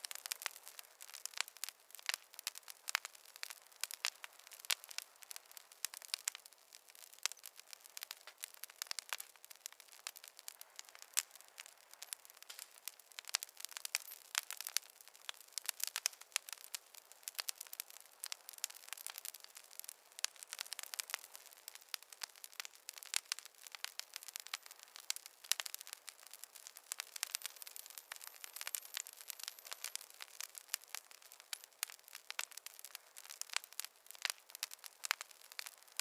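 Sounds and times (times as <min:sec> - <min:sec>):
fireplace fire crackling: 0:00.0 - 0:36.0.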